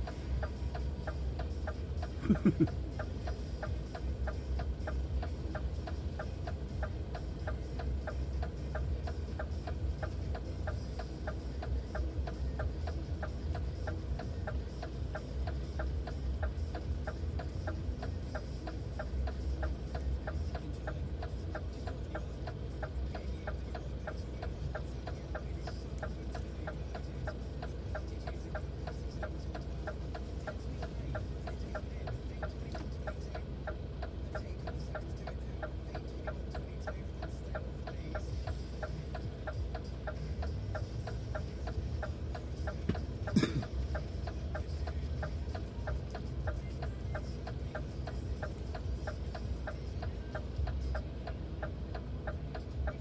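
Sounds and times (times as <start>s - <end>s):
fast regular ticking: 0.0s - 53.0s
vehicle engine idling: 0.0s - 53.0s.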